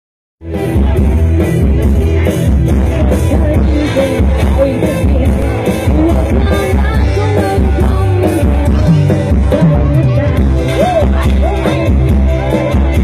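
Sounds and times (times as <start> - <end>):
loud music with heavy bass: 0.4 - 13.0
person singing: 0.9 - 13.0.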